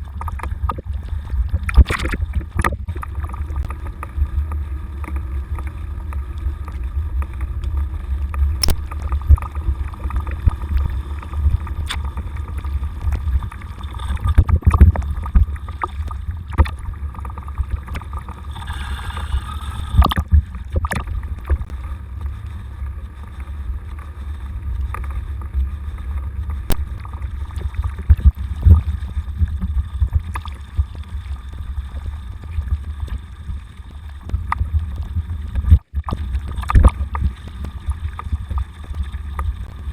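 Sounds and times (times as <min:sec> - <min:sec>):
wind and ride vibration rumble: 0:00.0 - 0:39.9.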